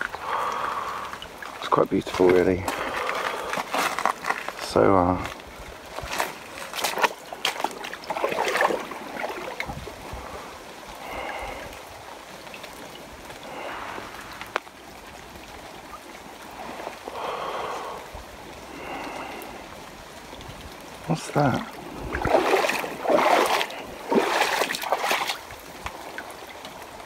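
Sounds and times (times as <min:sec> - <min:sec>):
stream gurgling and trickling: 0:00.0 - 0:27.0.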